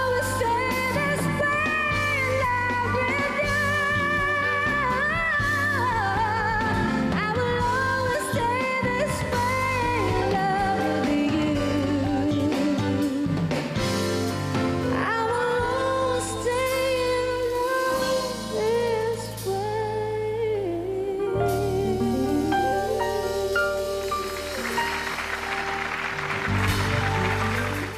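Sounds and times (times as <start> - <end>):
woman singing a ballad: 0.0 - 14.0, 14.8 - 24.3
band accompaniment: 0.0 - 19.9, 21.3 - 27.9.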